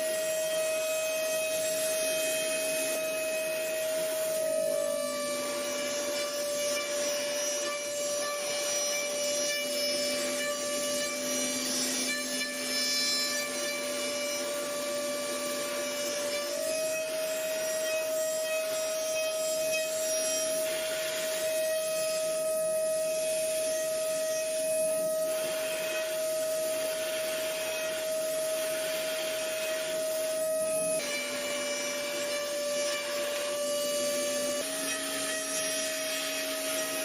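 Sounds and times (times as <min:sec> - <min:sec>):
cnc spindle whine: 0:00.0 - 0:37.0
rasping cutting noise: 0:00.0 - 0:37.0.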